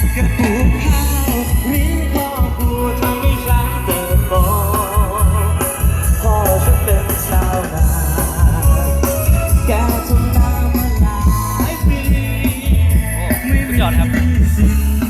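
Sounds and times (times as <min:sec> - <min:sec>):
song with pulsing bass: 0:00.0 - 0:15.0.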